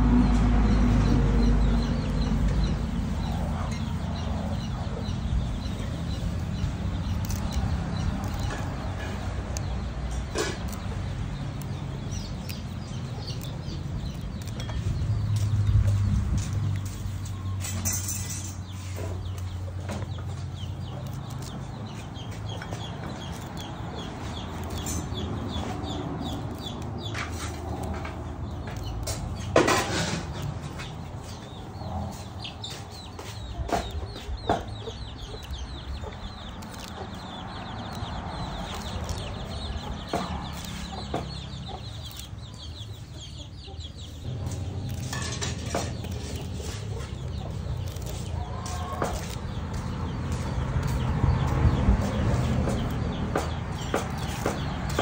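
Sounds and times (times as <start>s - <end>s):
sprigs snapping: 5.6s - 32.0s, 32.9s - 43.0s, 44.2s - 52.0s.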